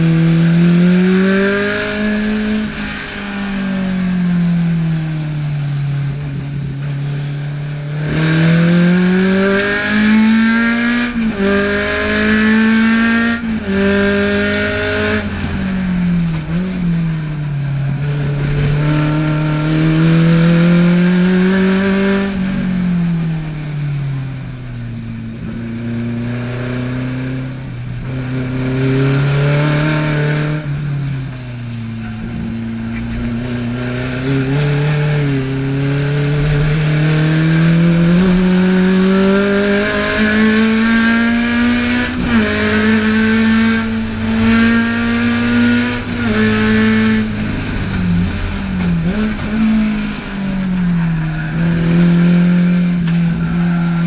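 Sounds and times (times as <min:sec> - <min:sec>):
race car engine revving: 0:00.0 - 0:23.2, 0:24.7 - 0:54.0.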